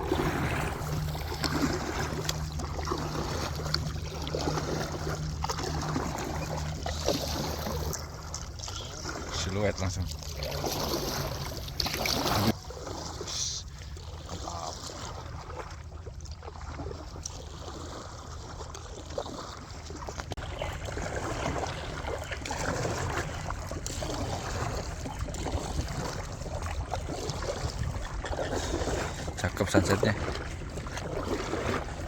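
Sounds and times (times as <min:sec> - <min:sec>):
boat engine running: 0:00.0 - 0:32.0
water rushing past hull: 0:00.0 - 0:32.0.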